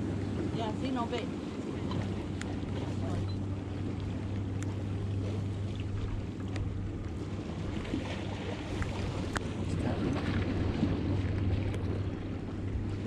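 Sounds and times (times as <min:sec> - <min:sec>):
steady low hum: 0:00.0 - 0:13.0
wind and water rumbling: 0:00.0 - 0:13.0.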